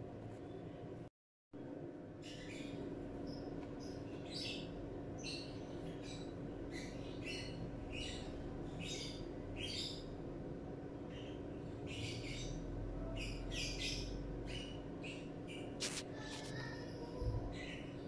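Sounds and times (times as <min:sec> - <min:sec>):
low hum: 0:00.0 - 0:16.6
bird chirping: 0:02.2 - 0:10.3, 0:11.0 - 0:18.0.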